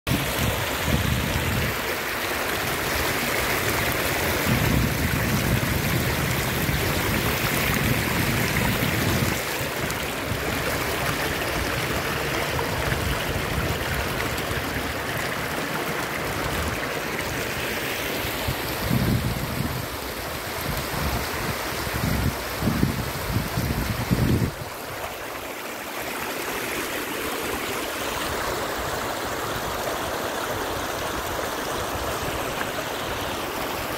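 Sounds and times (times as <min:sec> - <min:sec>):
river water rushing over stones: 0:00.1 - 0:33.9.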